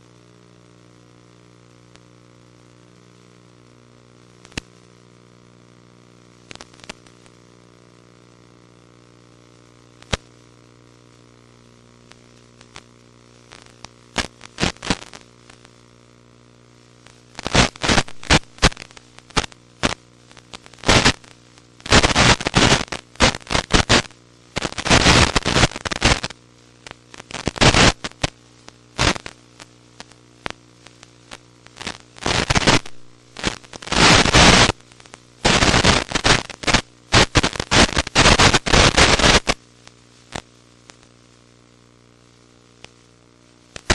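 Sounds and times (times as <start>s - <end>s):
crackling static hiss: 0.0s - 43.9s
electrical buzzing hum: 0.0s - 43.9s.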